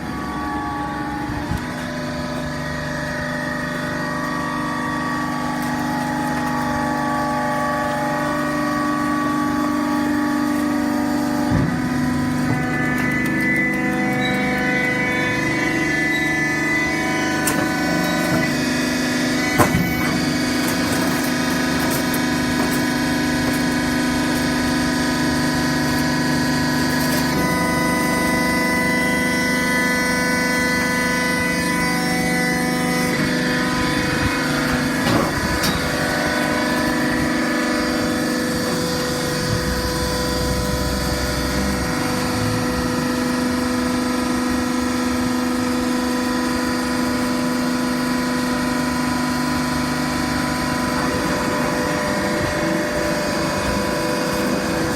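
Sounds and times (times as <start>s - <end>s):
baler hydraulic hum: 0.0s - 54.9s.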